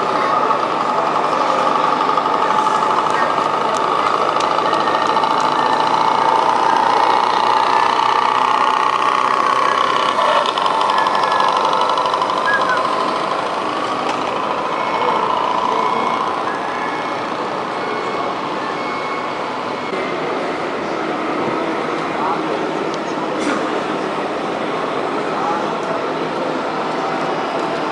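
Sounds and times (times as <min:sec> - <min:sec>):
reversing beeper: 0:00.0 - 0:22.7
model truck motor whine: 0:00.0 - 0:27.9.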